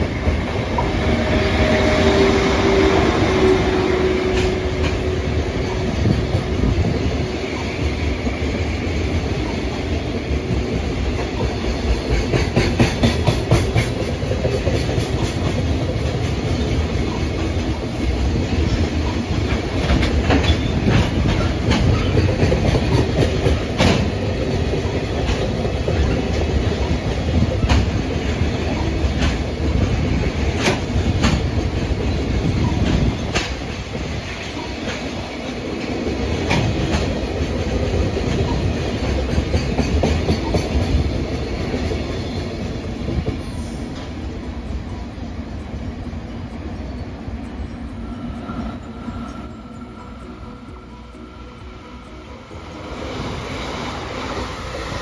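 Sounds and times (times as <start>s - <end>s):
train wheels clicking over rail joints: 0.0s - 49.0s.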